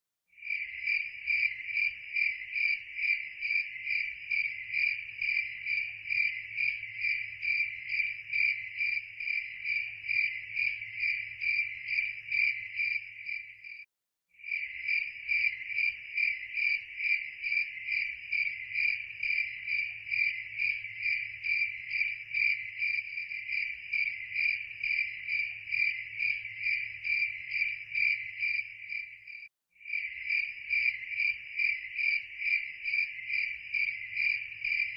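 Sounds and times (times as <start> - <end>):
cricket chirping: 0.3 - 34.9.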